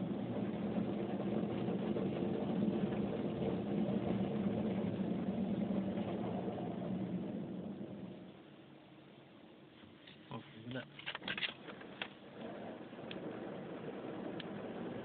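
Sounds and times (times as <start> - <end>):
car wash machinery hum: 0.0 - 11.0, 11.6 - 15.0
water spraying over car: 0.0 - 15.0.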